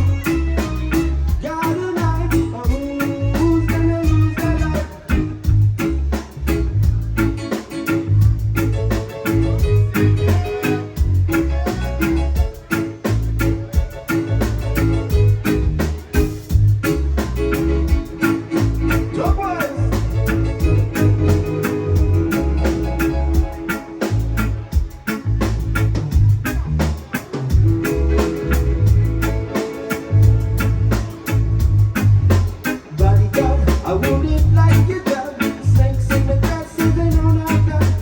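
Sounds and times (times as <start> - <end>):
bass line: 0.0 - 38.0
drums: 0.0 - 38.0
guitar: 0.0 - 38.0
keyboard: 0.0 - 38.0.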